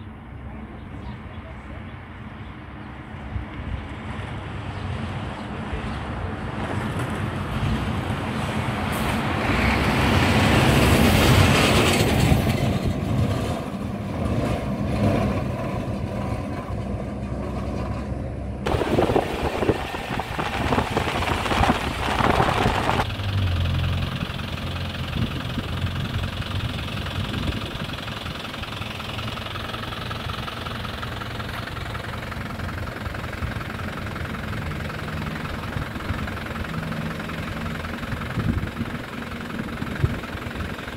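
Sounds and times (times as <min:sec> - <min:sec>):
road noise: 0:00.0 - 0:40.9
van engine running: 0:00.0 - 0:40.9.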